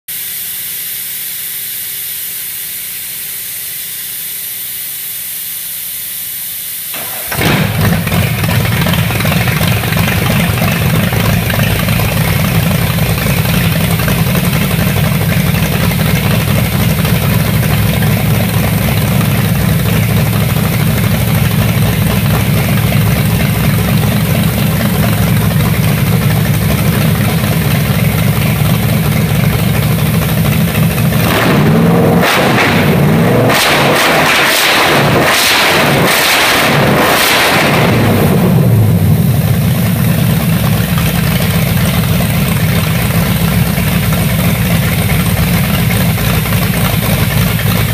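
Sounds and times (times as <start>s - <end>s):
vee-eight engine starting and running: 6.7s - 47.9s.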